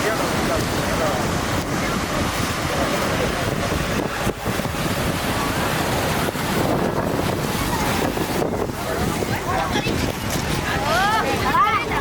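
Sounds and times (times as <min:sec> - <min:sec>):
sea water washing: 0:00.0 - 0:12.0
wind buffeting microphone: 0:00.0 - 0:12.0.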